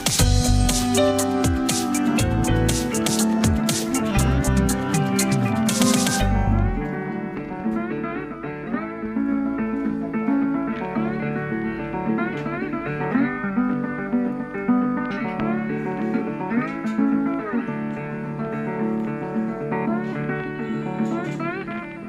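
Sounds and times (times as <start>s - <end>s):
plucked string melody: 0.0s - 22.0s
steady musical accompaniment: 0.0s - 22.0s.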